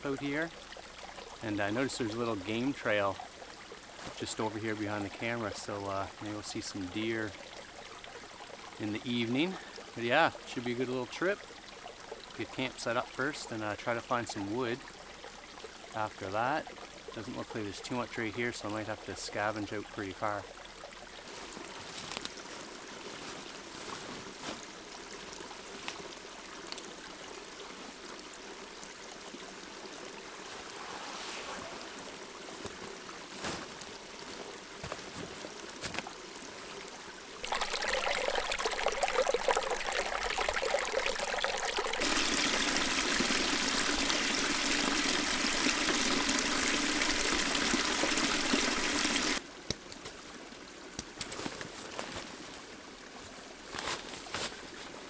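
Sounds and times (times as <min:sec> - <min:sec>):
creek water trickling: 0:00.0 - 0:55.0.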